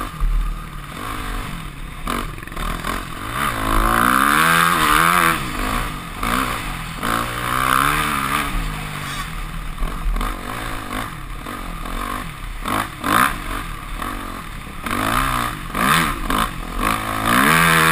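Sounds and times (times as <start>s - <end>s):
motocross engine revving: 0.0s - 17.9s.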